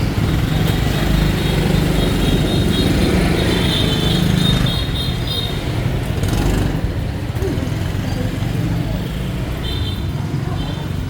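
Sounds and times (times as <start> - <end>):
motorbike engines droning: 0.0 - 11.0.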